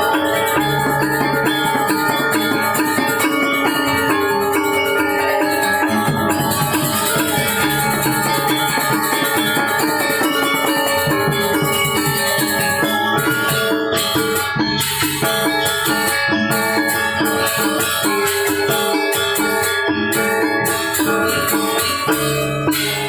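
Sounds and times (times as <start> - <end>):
drums: 0.0 - 23.0
metallophones ringing: 0.0 - 23.0.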